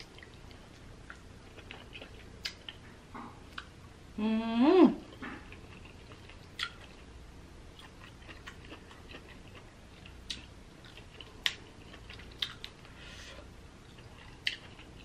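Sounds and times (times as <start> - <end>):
chewing and mouth sounds: 0.0 - 3.8, 5.1 - 13.0, 13.8 - 15.0.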